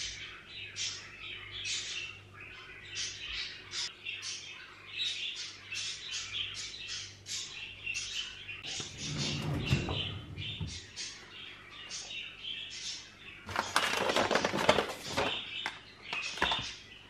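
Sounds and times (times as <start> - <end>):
parakeets chattering: 0.0 - 14.5.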